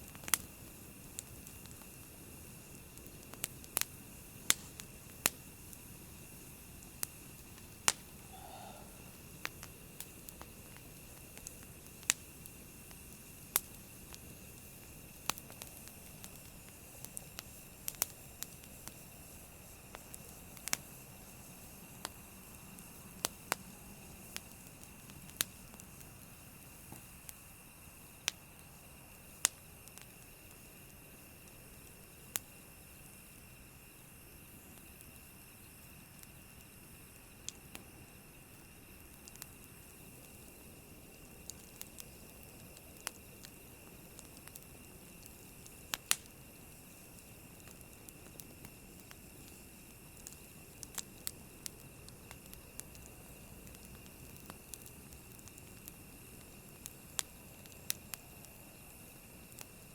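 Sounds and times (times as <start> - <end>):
campfire crackling and popping: 0.0 - 59.9
low hiss: 0.0 - 59.9.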